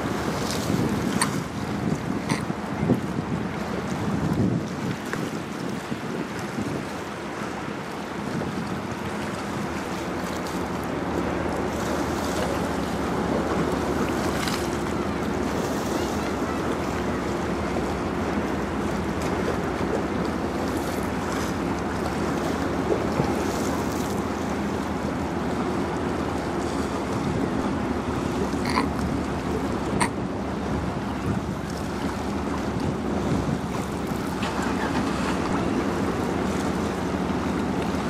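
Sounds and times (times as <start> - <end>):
ship engine low drone: 0.0 - 38.0
water washing along hull: 0.0 - 38.0
wind on microphone: 0.0 - 38.0.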